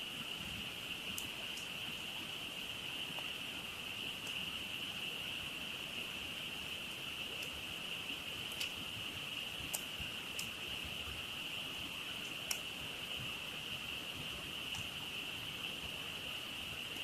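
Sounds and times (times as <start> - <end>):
campfire crackling: 0.7 - 17.0.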